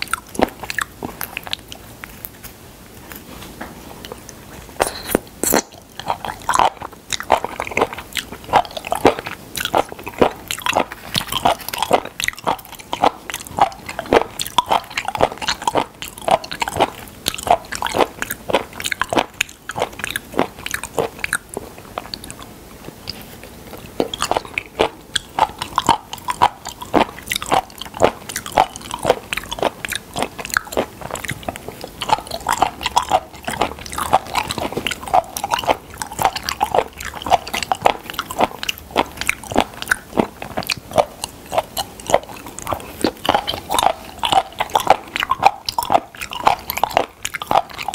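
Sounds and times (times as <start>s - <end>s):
person chewing: 0.0s - 47.9s.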